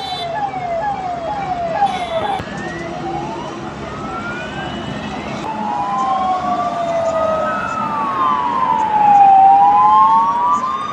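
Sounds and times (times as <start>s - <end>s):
emergency sirens wailing: 0.0s - 10.9s
road traffic rumble: 0.0s - 10.9s.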